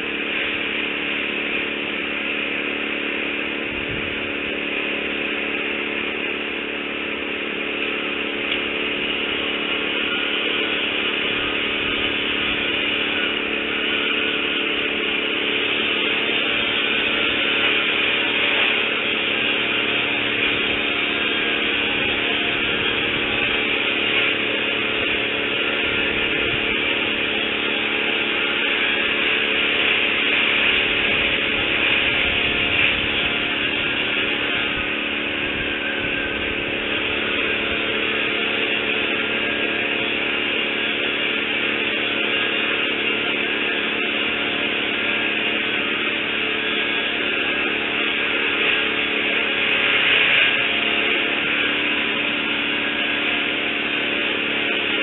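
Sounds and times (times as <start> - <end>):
motor running: 0.0 - 55.0.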